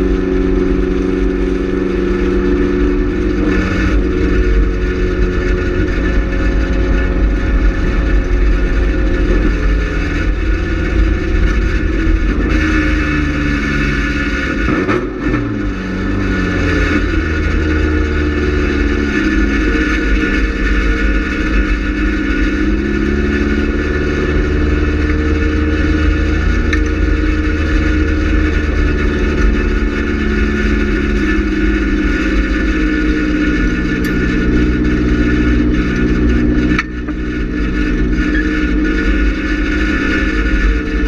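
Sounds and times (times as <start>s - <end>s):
race car engine at high revs: 0.0s - 41.0s.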